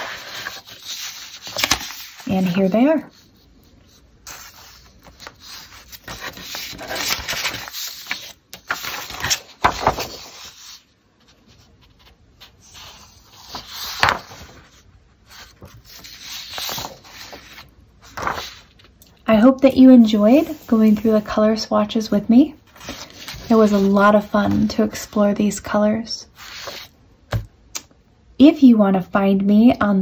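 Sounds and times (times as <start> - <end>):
paper sheets rustling: 0.0 - 21.6, 22.7 - 25.3, 26.4 - 26.9.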